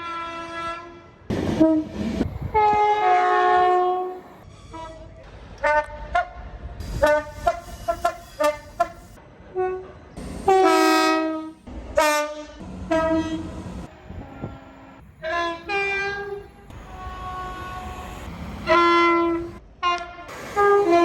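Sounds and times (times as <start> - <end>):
train air horn blasts: 0.0 - 21.0.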